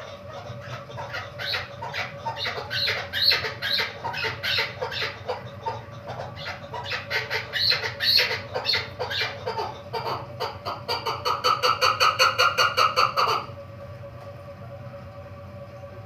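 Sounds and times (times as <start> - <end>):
partridge clucking calls: 0.0 - 13.5.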